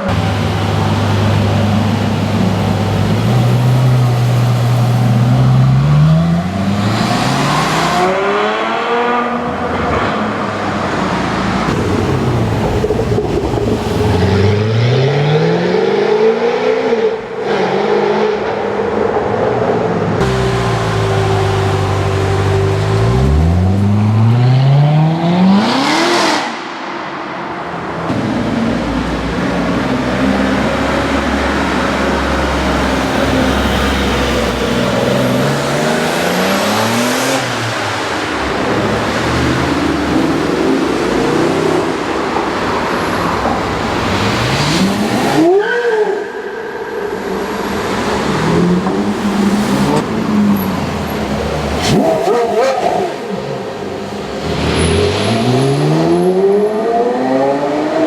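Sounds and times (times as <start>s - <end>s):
sports car engines accelerating: 0.0s - 58.0s.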